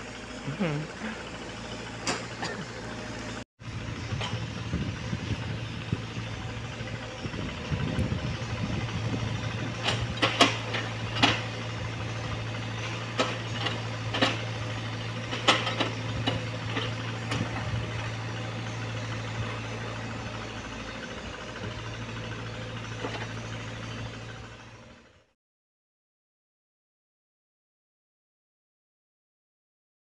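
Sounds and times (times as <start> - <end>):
excavator diesel engine running: 0.0 - 25.4.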